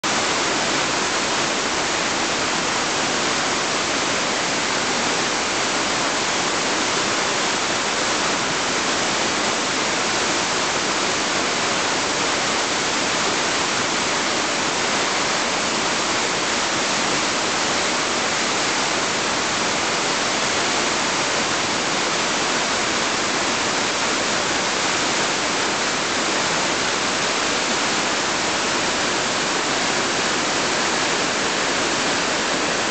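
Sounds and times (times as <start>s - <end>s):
river rushing over rocks: 0.0s - 32.9s.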